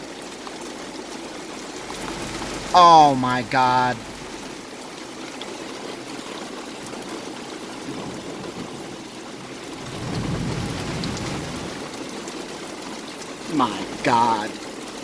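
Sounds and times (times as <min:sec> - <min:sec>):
heavy rain pouring: 0:01.2 - 0:15.0.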